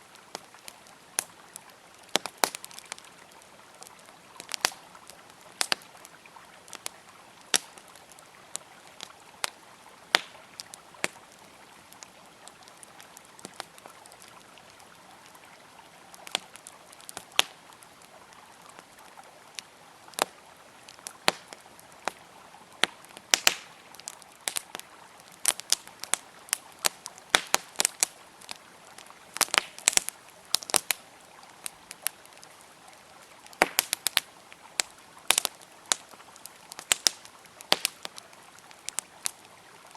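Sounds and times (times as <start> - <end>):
campfire crackling and popping: 0.0 - 39.9
flowing river water: 0.0 - 39.9.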